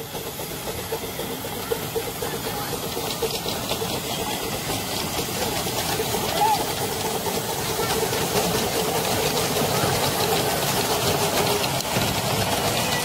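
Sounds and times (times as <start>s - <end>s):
locomotive regular beat: 0.0s - 13.0s
steam hiss: 0.0s - 13.0s.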